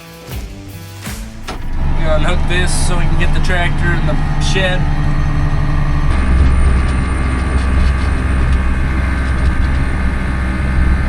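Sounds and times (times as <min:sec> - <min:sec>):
tractor engine running: 0:01.1 - 0:11.0.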